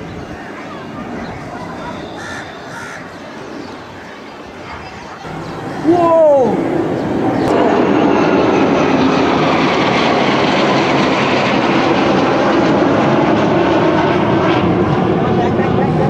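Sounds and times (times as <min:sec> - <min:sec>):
jet planes flying overhead: 0:00.0 - 0:16.0.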